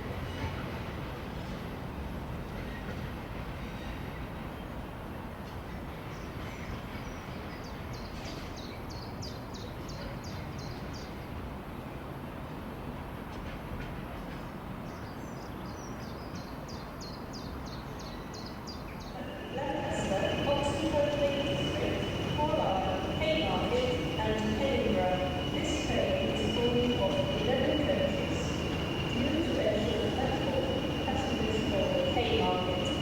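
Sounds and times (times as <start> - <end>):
railway station background rumble: 0.0 - 33.0.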